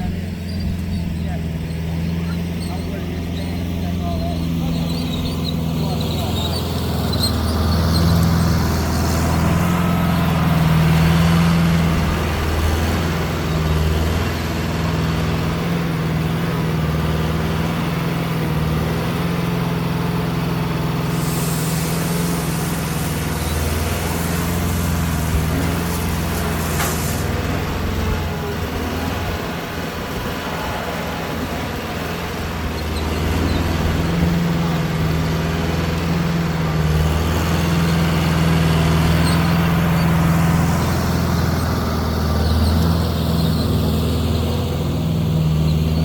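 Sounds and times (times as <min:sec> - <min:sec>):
large engine humming: 0:00.0 - 0:46.0.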